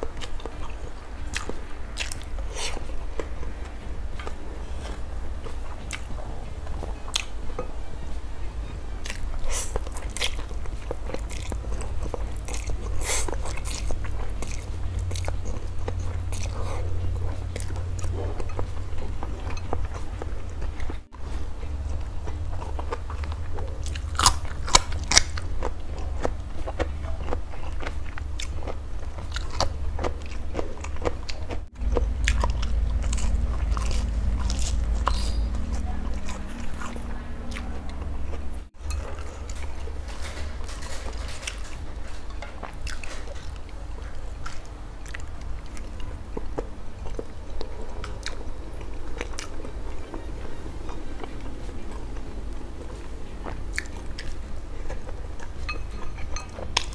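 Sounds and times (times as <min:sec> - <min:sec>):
wet chewing: 0:00.0 - 0:08.1, 0:08.7 - 0:56.9.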